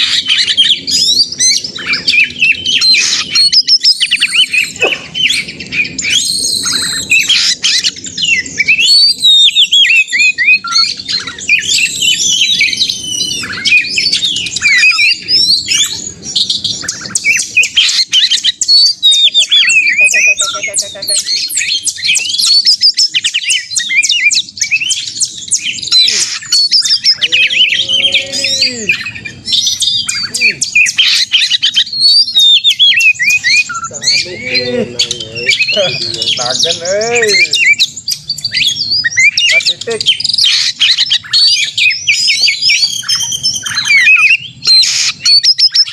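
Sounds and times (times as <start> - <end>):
bird singing and chattering: 0.0 - 45.9.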